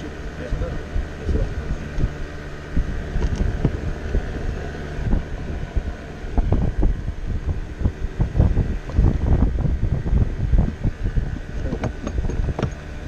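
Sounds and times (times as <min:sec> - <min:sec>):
wind rumbling on microphone: 0:00.0 - 0:13.0
low thumps: 0:00.9 - 0:13.0.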